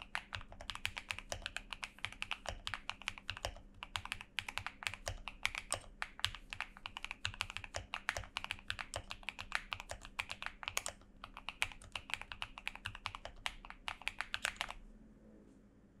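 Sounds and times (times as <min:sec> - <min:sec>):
mechanical keyboard typing: 0:00.0 - 0:14.8.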